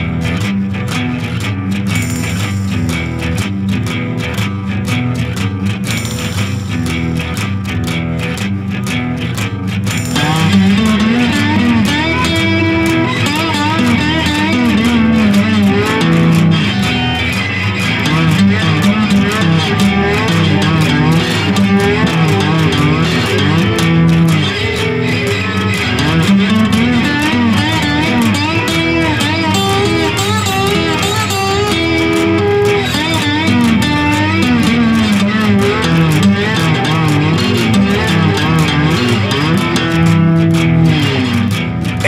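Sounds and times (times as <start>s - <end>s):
rock guitars and bass: 0.0s - 42.0s
wavering bent guitar lead: 0.0s - 42.0s.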